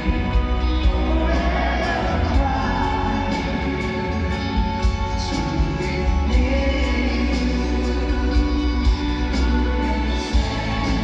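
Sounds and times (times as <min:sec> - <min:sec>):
live pop-rock band playing: 0:00.0 - 0:11.0
vocals singing: 0:00.0 - 0:11.0.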